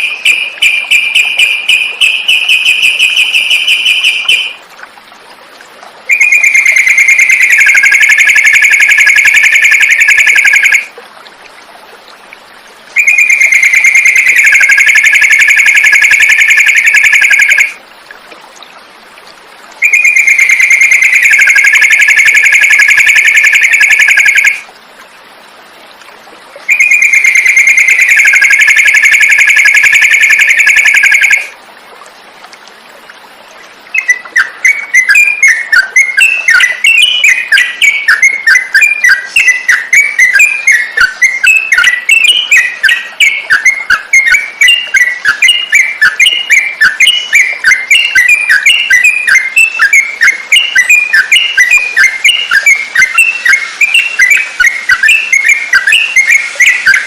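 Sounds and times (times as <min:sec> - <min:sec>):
songbird rapid trill: 0:00.0 - 0:04.6, 0:06.1 - 0:10.9, 0:13.0 - 0:17.8, 0:19.8 - 0:24.6, 0:26.7 - 0:31.5, 0:33.9 - 0:57.0.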